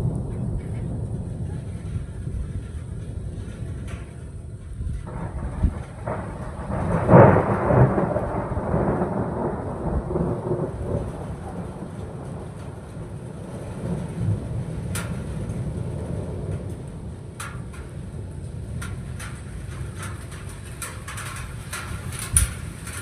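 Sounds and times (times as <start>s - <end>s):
thunderclap with rolling rumble: 0.0s - 23.0s.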